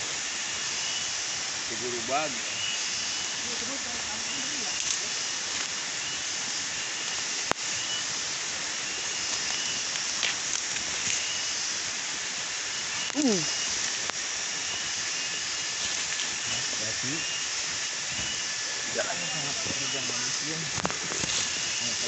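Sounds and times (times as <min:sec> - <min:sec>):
forest ambience hiss: 0:00.0 - 0:22.0
people walking through undergrowth: 0:01.7 - 0:22.0.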